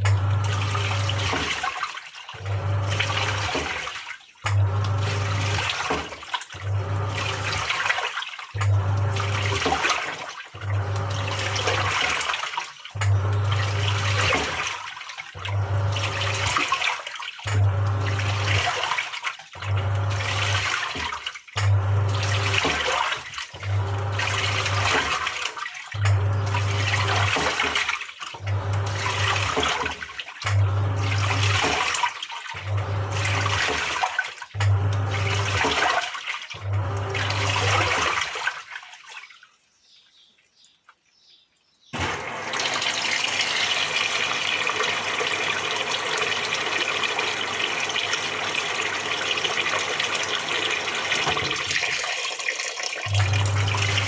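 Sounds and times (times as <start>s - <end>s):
washing machine motor humming: 0.0s - 39.3s, 42.0s - 54.0s
water pouring into tub: 0.0s - 39.7s, 42.0s - 54.0s
water sloshing in drum: 0.0s - 40.8s, 42.0s - 54.0s.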